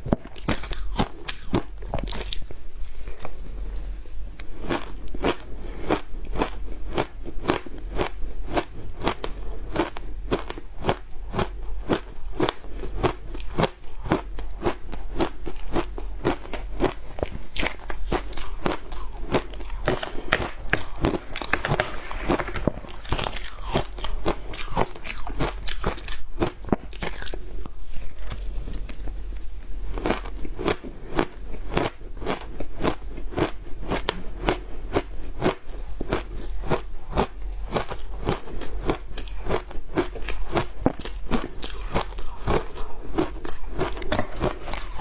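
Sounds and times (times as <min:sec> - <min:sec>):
ice being chewed: 0:00.1 - 0:45.0.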